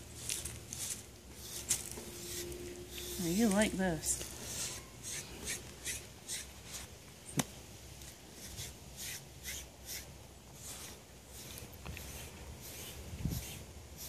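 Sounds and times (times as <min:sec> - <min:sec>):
blade brushing dog's coat: 0:00.3 - 0:06.9, 0:08.4 - 0:14.0.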